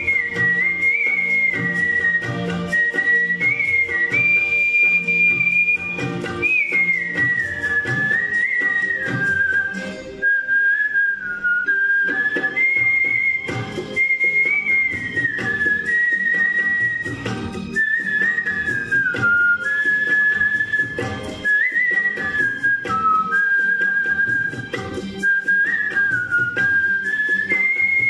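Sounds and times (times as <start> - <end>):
instrumental backing track: 0.0 - 28.0
man whistling a melody: 0.0 - 28.0.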